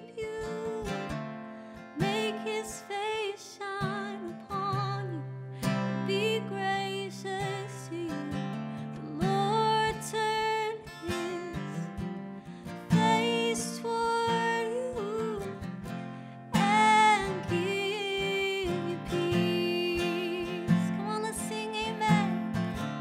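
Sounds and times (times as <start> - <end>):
person singing: 0.0 - 1.2, 2.0 - 12.0, 12.9 - 15.6, 16.6 - 22.5
acoustic guitar strumming: 0.0 - 23.0.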